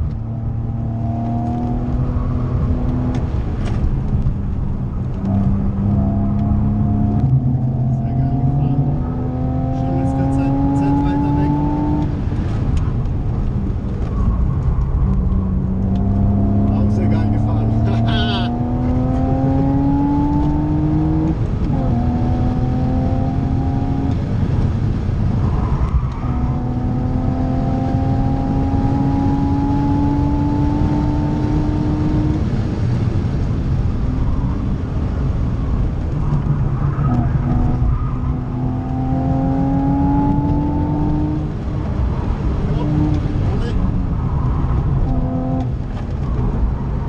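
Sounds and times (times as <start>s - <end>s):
car engine at full throttle: 0.0s - 47.0s.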